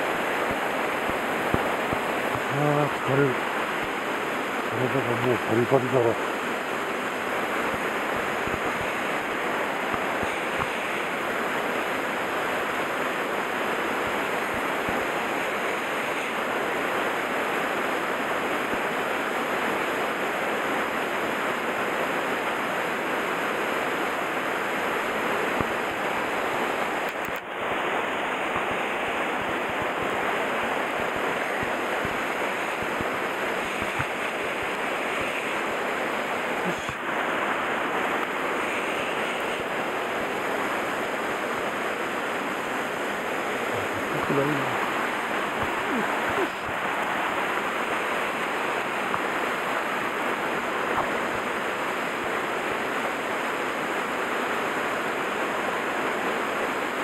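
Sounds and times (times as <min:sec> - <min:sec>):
mountain stream over rocks: 0:00.0 - 0:57.0.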